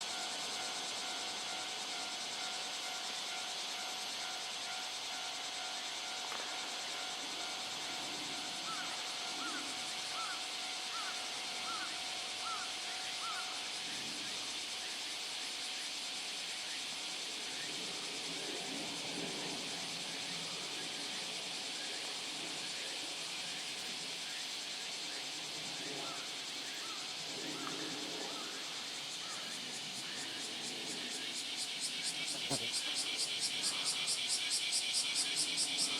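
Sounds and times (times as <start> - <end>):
insects buzzing: 0.0 - 35.9
steady outdoor hiss: 0.0 - 35.9.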